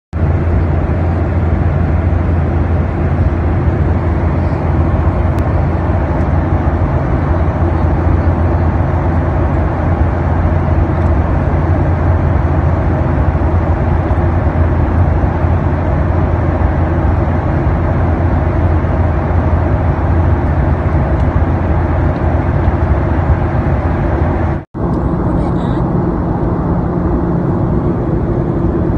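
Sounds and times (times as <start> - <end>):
airliner cabin drone: 0.2 - 28.9.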